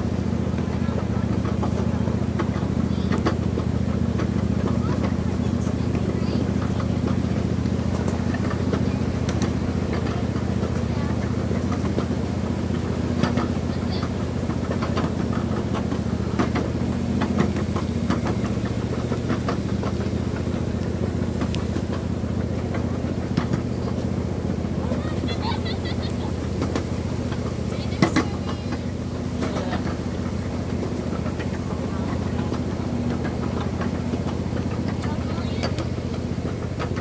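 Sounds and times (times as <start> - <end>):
ride train engine drone: 0.0 - 37.0
clicks and clacks: 0.5 - 37.0.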